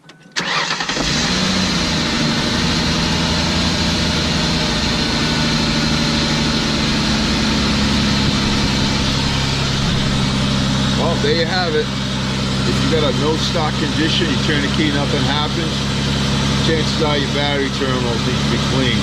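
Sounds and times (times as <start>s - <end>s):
car engine idling: 0.4s - 19.0s.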